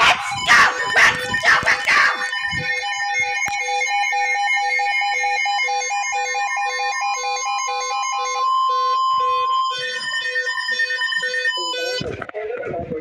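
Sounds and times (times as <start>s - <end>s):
electronic alert beeps: 0.0s - 4.2s, 6.0s - 12.3s.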